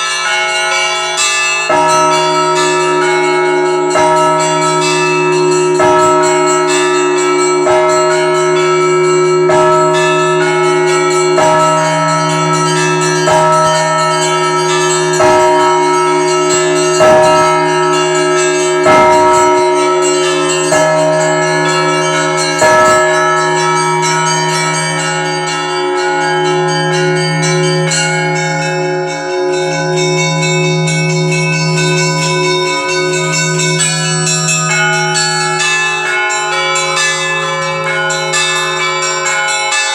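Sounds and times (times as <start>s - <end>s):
large bell striking: 0.0s - 39.9s
small bells chiming: 0.0s - 39.9s.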